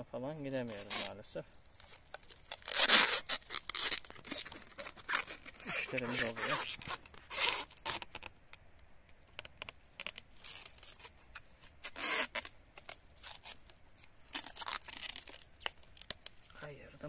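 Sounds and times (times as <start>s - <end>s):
plastic film crackling and rustling: 0.4s - 8.5s, 9.2s - 16.7s.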